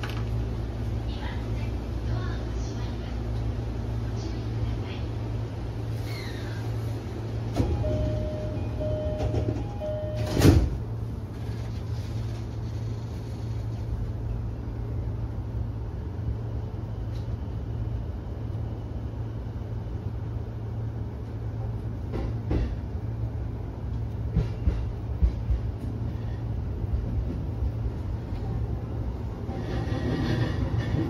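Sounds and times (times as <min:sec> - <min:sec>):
electric train hum: 0:00.0 - 0:31.0.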